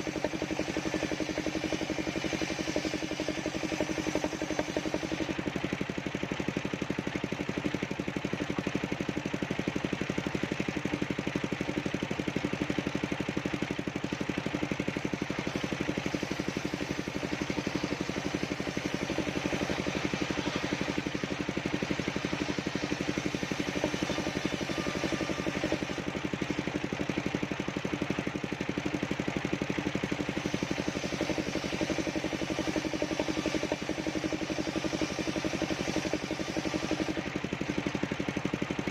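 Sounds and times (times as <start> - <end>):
sawmill engine pulsing: 0.0 - 38.9.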